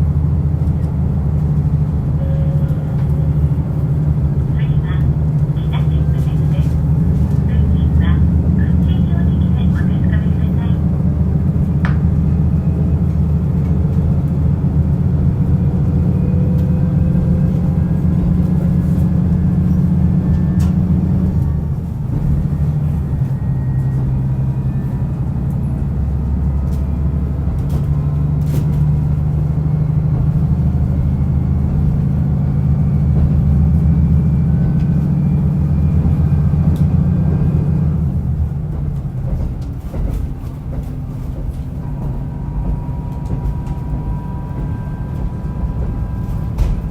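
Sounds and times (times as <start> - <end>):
diesel engine droning: 0.0 - 46.9
wheel and rail noise: 0.0 - 46.9.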